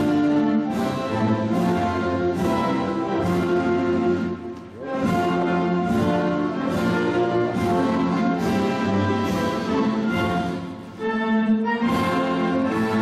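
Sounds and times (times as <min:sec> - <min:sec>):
orchestral music with brass and strings: 0:00.0 - 0:13.0.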